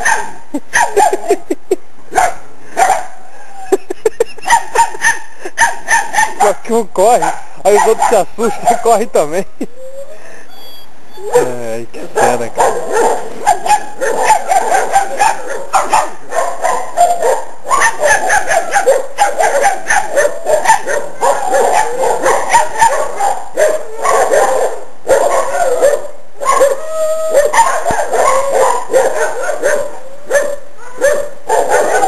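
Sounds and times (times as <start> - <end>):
young dogs barking and yapping: 0.0 - 32.0.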